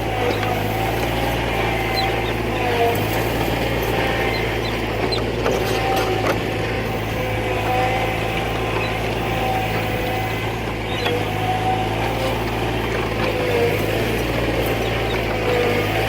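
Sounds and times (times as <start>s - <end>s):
farm machine engine humming: 0.0s - 16.0s.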